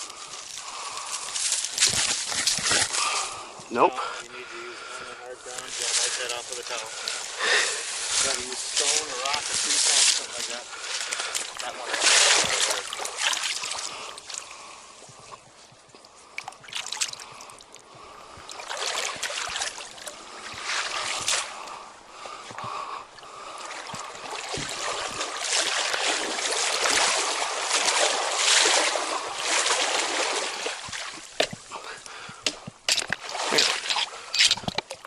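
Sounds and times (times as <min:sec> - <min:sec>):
stream water splashing: 0:00.0 - 0:03.5, 0:04.8 - 0:14.8, 0:16.3 - 0:35.0.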